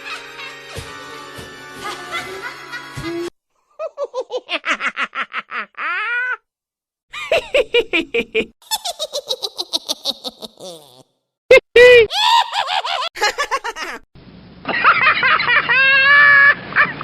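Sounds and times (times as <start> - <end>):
person laughing: 1.8 - 6.4, 7.1 - 14.1, 14.7 - 17.0.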